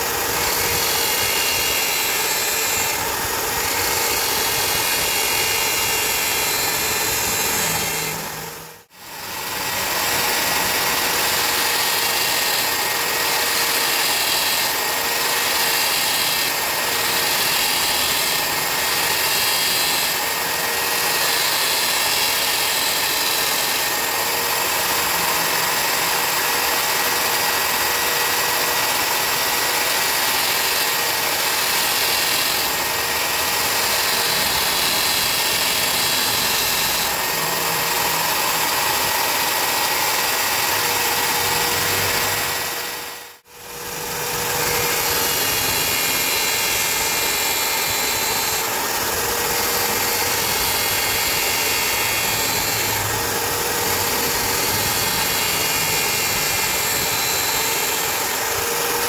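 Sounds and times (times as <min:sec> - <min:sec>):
blade grinding against disc: 0:00.0 - 0:08.6, 0:09.3 - 0:43.0, 0:43.8 - 0:59.0
circular saw whining: 0:00.0 - 0:59.0.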